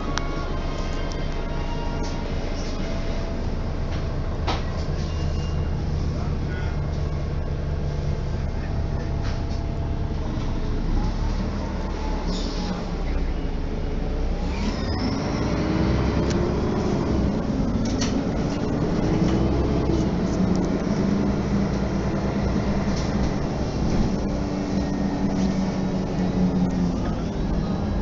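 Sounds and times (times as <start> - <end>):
bus engine humming: 0.0 - 28.0.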